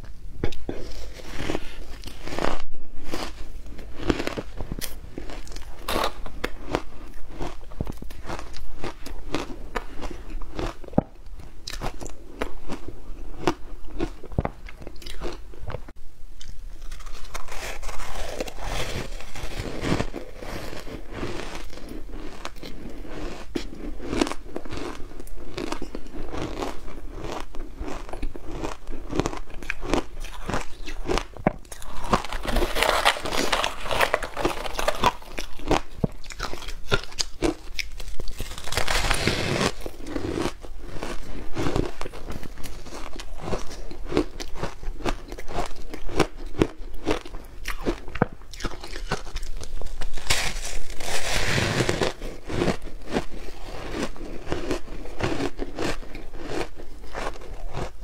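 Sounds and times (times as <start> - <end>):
chewing ice crunching: 1.4 - 15.5, 16.4 - 58.0.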